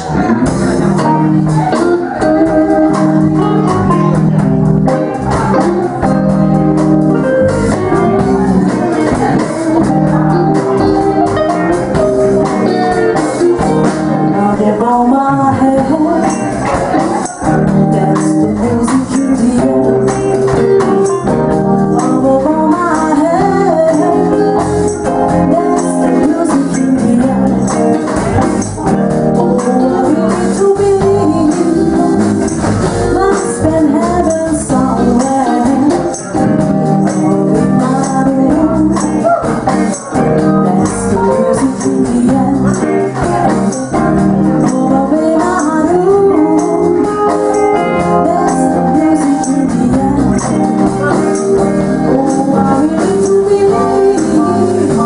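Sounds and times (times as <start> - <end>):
woman singing into microphone: 0.0 - 4.2, 8.2 - 55.0
drums: 0.0 - 55.0
electric keyboard: 0.0 - 55.0.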